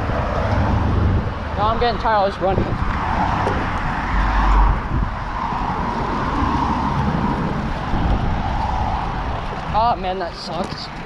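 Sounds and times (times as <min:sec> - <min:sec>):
low rumble: 0:00.0 - 0:10.1
road traffic tyre noise: 0:00.0 - 0:11.0.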